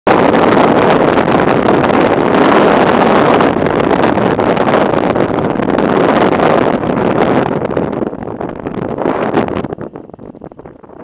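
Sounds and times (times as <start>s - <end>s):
wind rushing over microphone: 0.0s - 11.0s
road noise: 0.2s - 10.8s.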